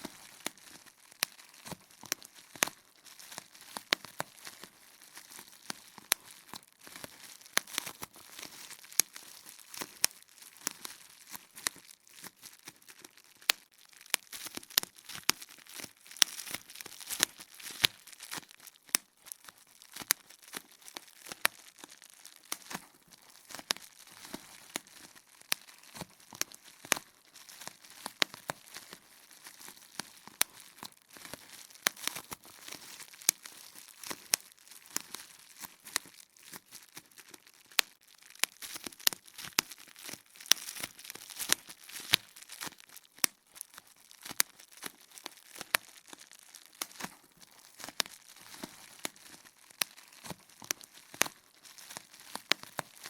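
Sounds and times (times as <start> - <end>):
bubble wrap popping: 0.0 - 53.0
plastic sheet crinkling: 0.0 - 53.0.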